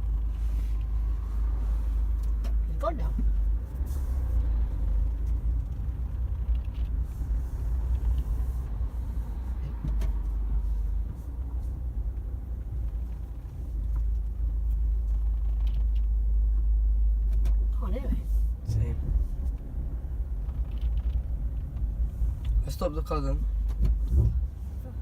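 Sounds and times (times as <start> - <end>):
car cabin road and engine rumble: 0.0 - 25.0.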